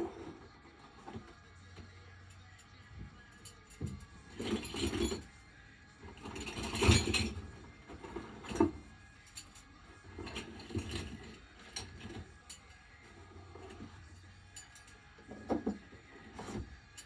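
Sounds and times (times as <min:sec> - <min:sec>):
small metal hardware clinking: 0:01.0 - 0:05.4, 0:06.1 - 0:17.0.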